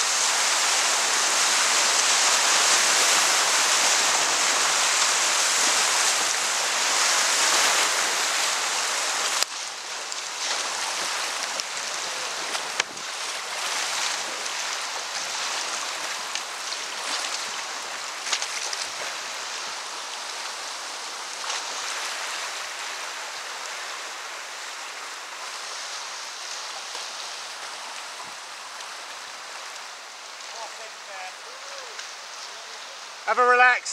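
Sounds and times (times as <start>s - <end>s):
paddle splashes: 0.0s - 33.3s
rapids rushing: 0.0s - 33.9s.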